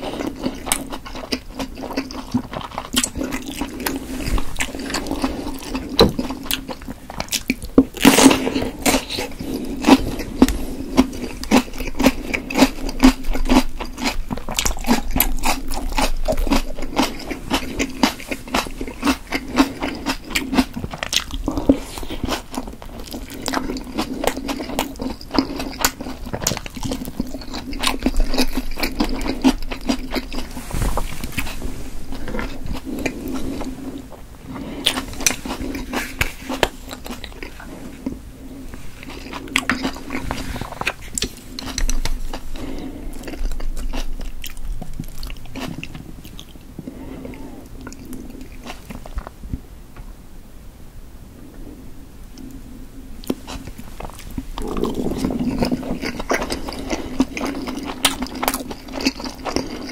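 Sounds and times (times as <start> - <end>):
wet sticky chewing: 0.0 - 49.3, 53.2 - 59.9.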